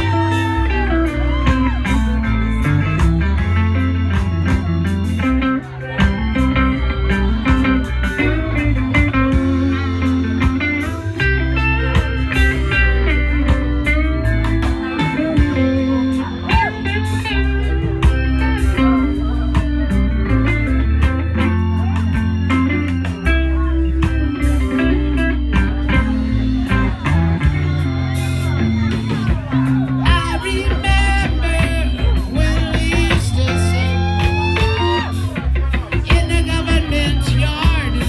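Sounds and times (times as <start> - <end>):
electric guitar lead lines: 0.0 - 38.0
reggae band playing: 0.0 - 38.0.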